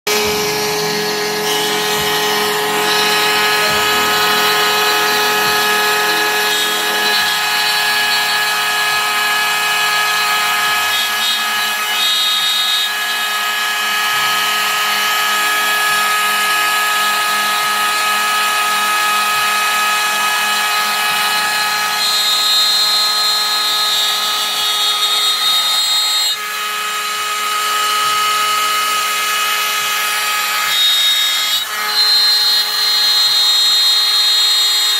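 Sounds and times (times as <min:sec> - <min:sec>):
wood router cutting plywood: 0:00.0 - 0:34.9.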